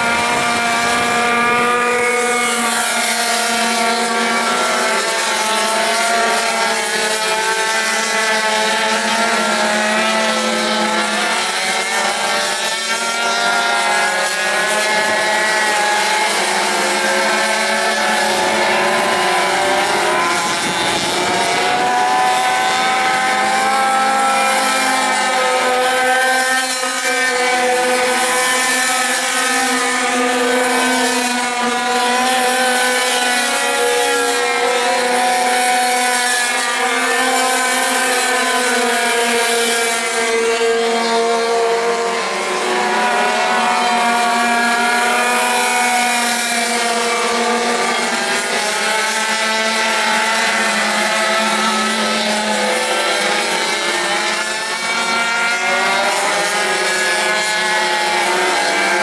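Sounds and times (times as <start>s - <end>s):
pocket bike engines racing: 0.0s - 59.0s.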